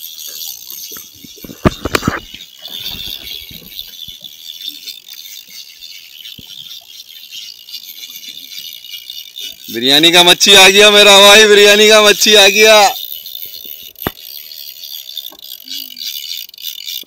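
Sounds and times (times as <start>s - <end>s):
rod and reel knocks: 0.0s - 11.0s, 12.5s - 17.0s
fishing reel whirring: 0.0s - 17.0s.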